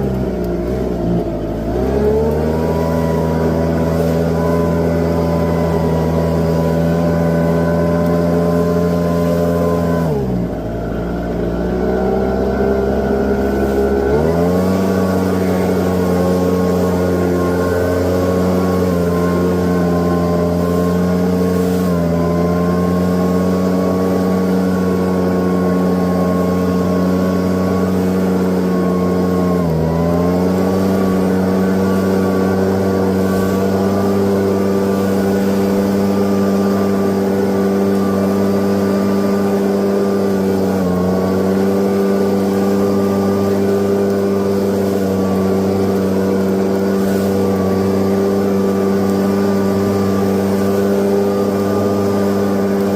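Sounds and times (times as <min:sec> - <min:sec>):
leaf blower engine running: 0:00.0 - 0:52.9.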